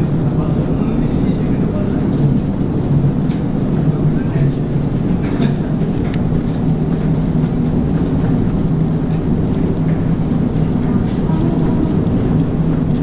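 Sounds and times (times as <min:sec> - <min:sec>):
machinery rumble and hum: 0:00.0 - 0:13.0.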